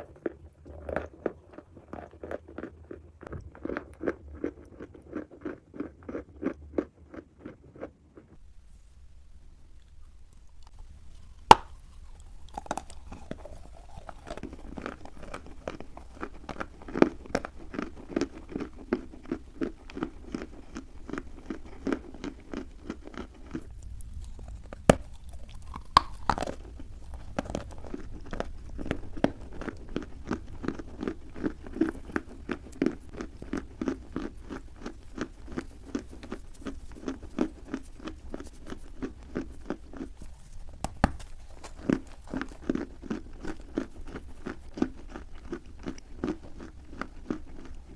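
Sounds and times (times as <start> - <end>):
dry clay bitten and chewed: 0.0 - 8.4, 9.6 - 47.9.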